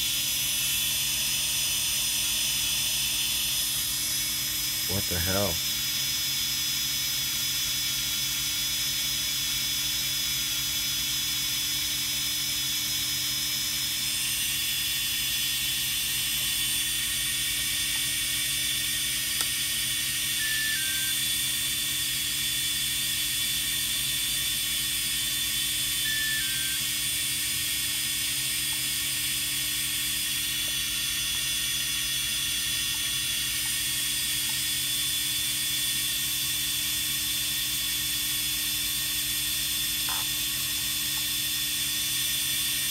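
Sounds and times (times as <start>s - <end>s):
drone motors whining: 0.0s - 42.9s.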